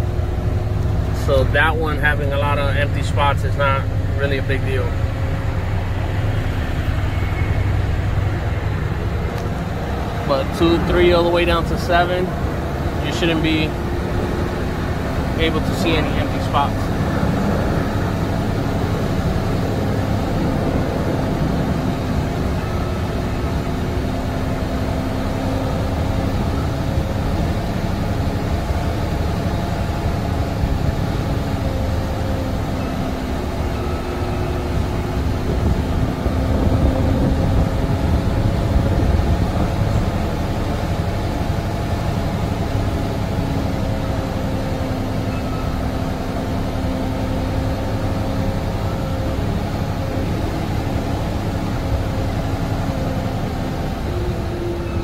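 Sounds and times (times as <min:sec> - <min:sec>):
diesel truck engine drone: 0:00.0 - 0:55.0.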